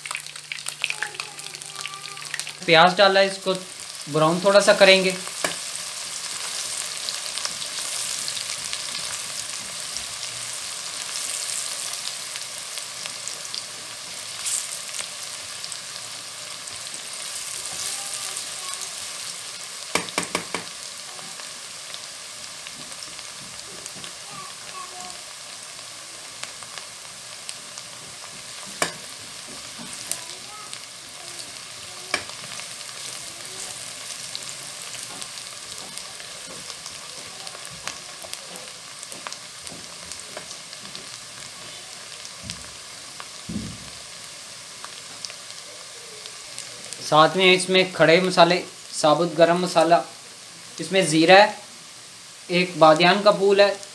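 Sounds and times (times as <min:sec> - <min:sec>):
onions sizzling in hot oil: 0:00.0 - 0:53.9.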